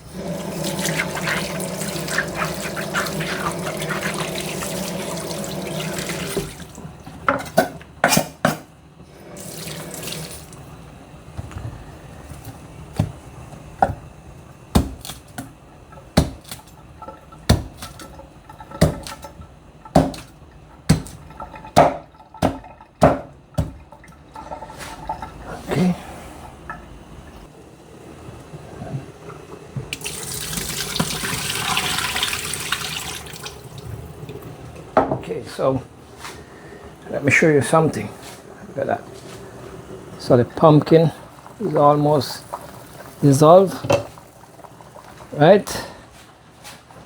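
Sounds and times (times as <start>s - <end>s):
tap water running into sink: 0.0s - 11.7s, 12.3s - 25.6s, 29.1s - 35.2s, 38.2s - 45.5s.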